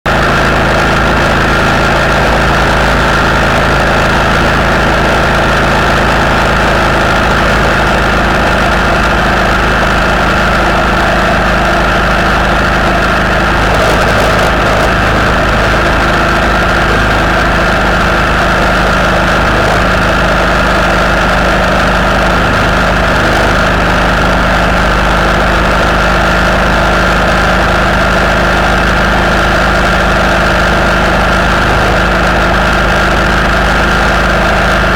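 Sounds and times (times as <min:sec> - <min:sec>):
vehicle engine running: 0:00.1 - 0:34.9
road and wind noise: 0:00.2 - 0:34.9.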